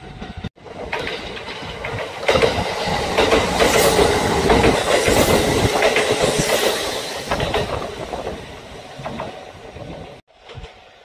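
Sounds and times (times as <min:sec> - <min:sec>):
train rumble: 0:00.0 - 0:11.0
train wheels clattering over rail joints: 0:00.1 - 0:10.9.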